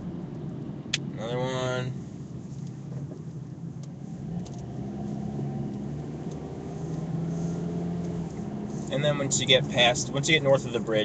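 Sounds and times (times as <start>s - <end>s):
car engine hum: 0.0s - 11.0s
road noise rumble: 0.0s - 11.0s.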